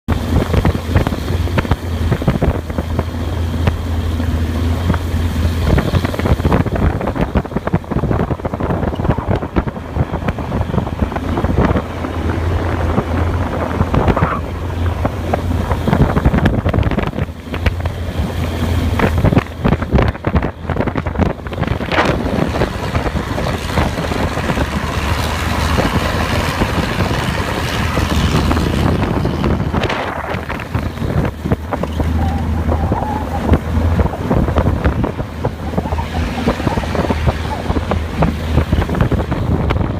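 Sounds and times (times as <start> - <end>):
boat engine humming: 0.1 - 39.9
wind buffeting microphone: 0.1 - 39.9.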